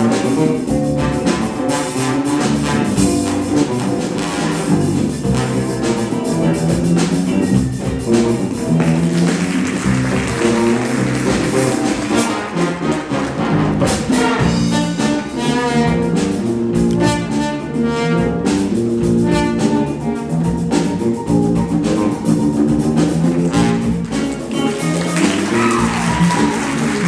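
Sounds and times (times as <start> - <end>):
jazz funk ensemble playing: 0.0 - 27.0.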